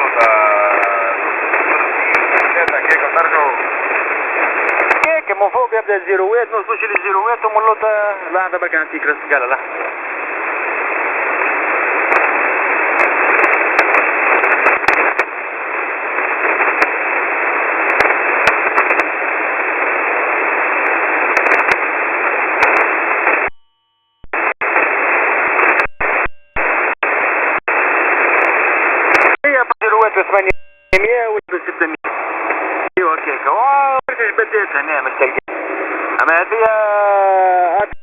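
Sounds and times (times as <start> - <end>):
radio static hiss: 0.0 - 38.0
static clicks: 0.8 - 7.9, 8.7 - 36.8, 37.5 - 38.0.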